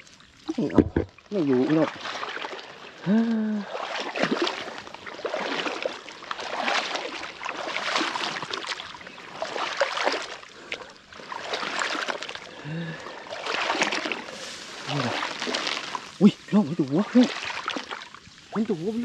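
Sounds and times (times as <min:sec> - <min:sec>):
footsteps splashing in shallow water: 0:00.0 - 0:19.0.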